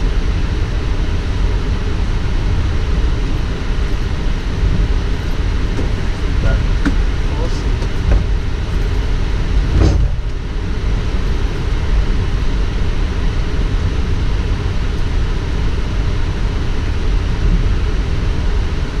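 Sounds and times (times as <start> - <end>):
aircraft cockpit engine rumble: 0.0 - 19.0.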